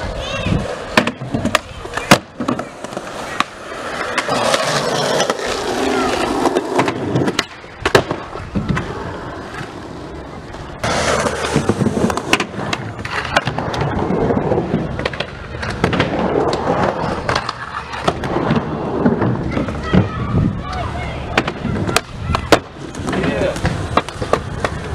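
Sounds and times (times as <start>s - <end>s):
skateboard clacking on ground: 0.0s - 24.9s
skateboard wheels rolling on concrete: 0.0s - 24.9s.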